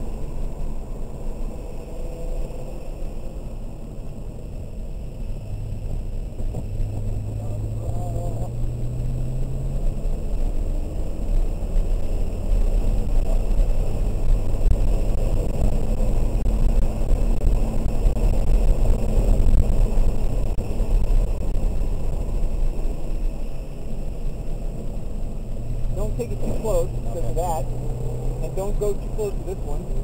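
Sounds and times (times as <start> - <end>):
car engine running: 0.0 - 30.0
tyre and road noise: 0.0 - 30.0.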